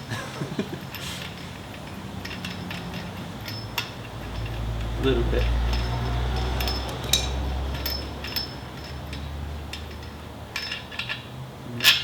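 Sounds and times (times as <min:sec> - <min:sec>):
metallic clinks of tools: 0:00.5 - 0:11.2.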